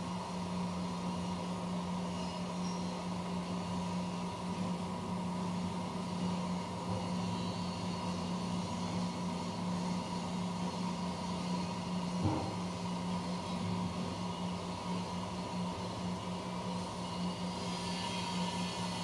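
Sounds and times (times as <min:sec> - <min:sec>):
cnc machine motor hum: 0:00.0 - 0:19.0
faint high whine: 0:00.0 - 0:19.0.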